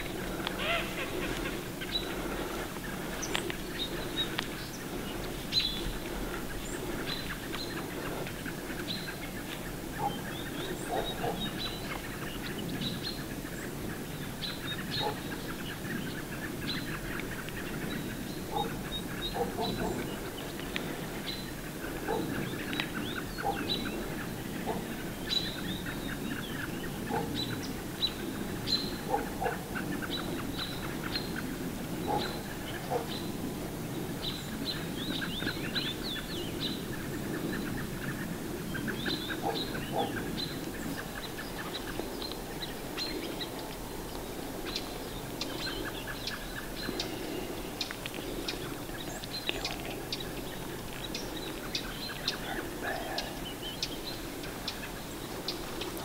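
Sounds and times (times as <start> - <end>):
small songbirds chirping: 0.0 - 56.0
steady low background noise: 0.0 - 56.0.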